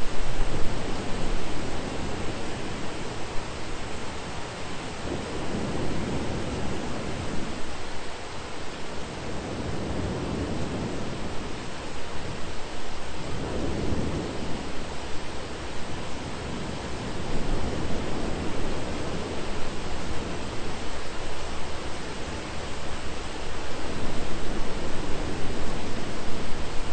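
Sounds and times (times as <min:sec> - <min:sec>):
distant rolling thunder: 0:00.0 - 0:26.9
steady rain hiss: 0:00.0 - 0:26.9.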